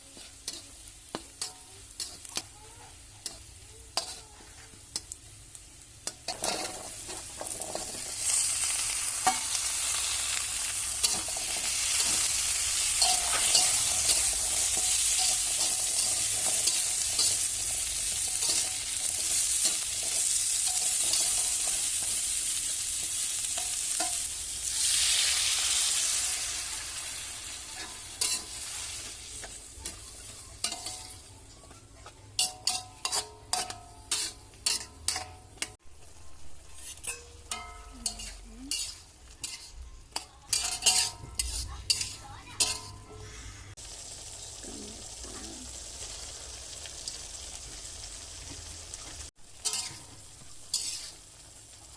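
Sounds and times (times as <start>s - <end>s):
vegetables sizzling in oil: 0.0s - 51.9s.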